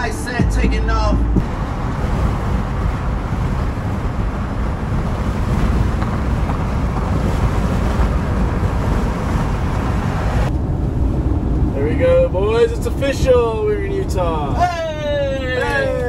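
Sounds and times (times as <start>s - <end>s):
vehicle wind and road noise: 0.0s - 16.0s.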